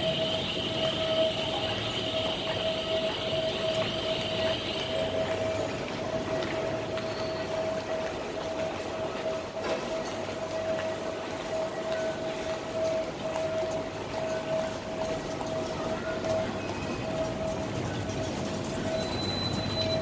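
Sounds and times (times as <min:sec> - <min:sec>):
electric train whine: 0:00.0 - 0:20.0
higher train whine: 0:00.0 - 0:20.0
rail noise rumble: 0:00.0 - 0:20.0.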